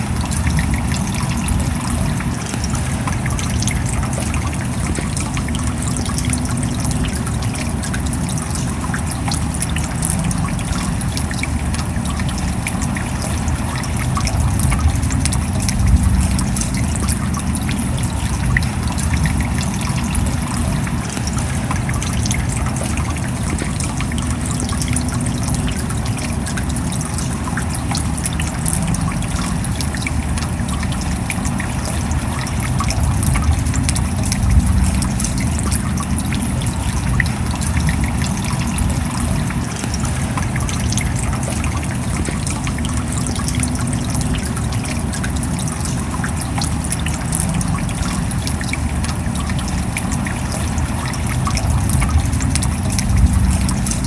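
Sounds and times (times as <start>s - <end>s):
raindrops ticking: 0.0s - 54.0s
water trickling: 0.0s - 54.0s.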